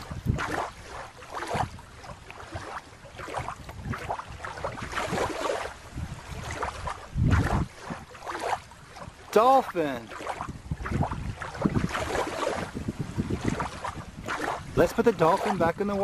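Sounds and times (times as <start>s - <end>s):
water splashing and sloshing: 0.0s - 16.0s
wind buffeting microphone: 0.0s - 16.0s.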